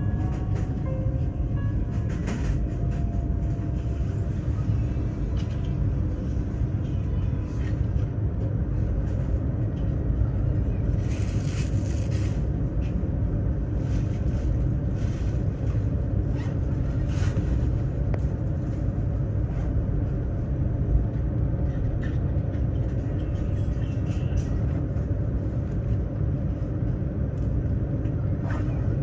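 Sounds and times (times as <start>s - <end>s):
high-speed train rumble inside car: 0.0s - 29.0s.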